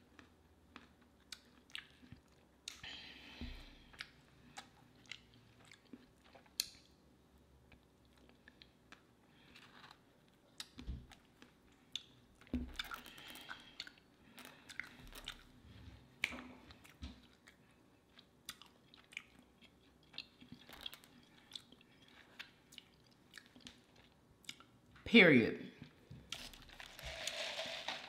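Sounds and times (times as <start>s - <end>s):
person chewing: 0.0s - 7.0s, 7.7s - 15.6s, 16.2s - 24.8s.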